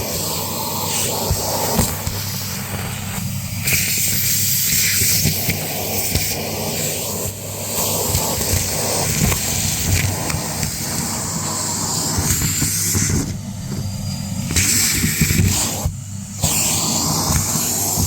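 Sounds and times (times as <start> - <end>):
grit rattling up vacuum hose: 0.0 - 18.0
vacuum cleaner running: 0.0 - 18.0.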